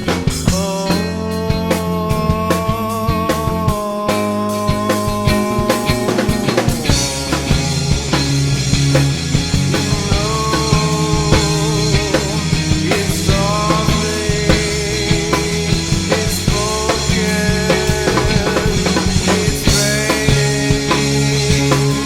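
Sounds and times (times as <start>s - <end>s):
rock music with drums and guitar: 0.0s - 22.0s.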